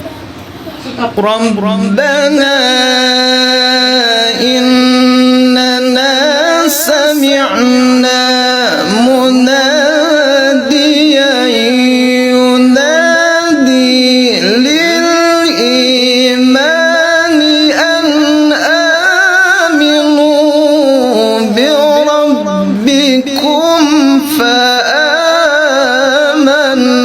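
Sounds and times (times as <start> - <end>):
person reciting melodically: 0.7 - 27.0.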